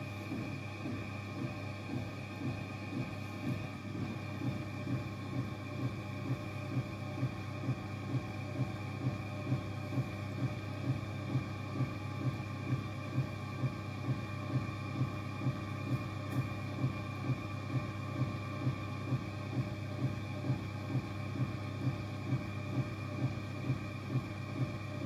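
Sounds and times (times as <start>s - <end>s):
potter's wheel humming: 0.0s - 25.0s.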